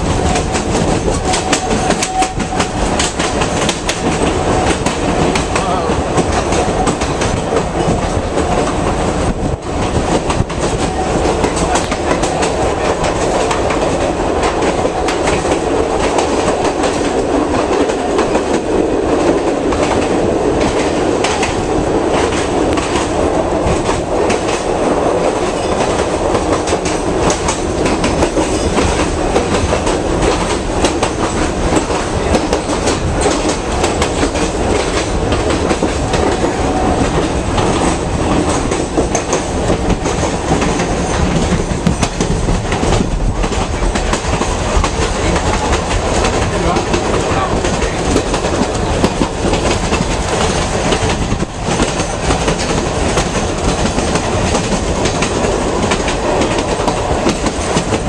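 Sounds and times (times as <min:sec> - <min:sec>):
electric train rumble: 0:00.0 - 0:58.0.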